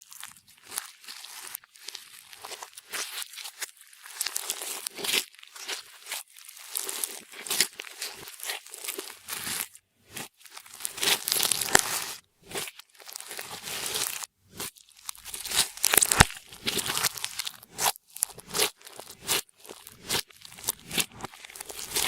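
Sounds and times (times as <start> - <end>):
slime squished by hand: 0.2 - 22.0.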